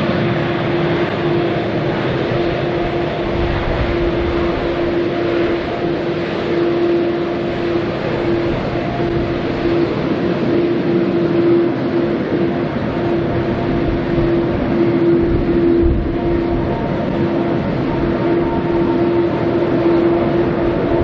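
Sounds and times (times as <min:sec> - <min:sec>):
jet engines idling: 0:00.0 - 0:21.0.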